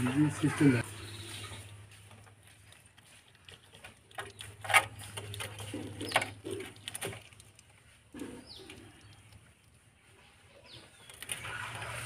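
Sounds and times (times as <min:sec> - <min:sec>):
animal chewing with crunching: 0:00.2 - 0:12.0.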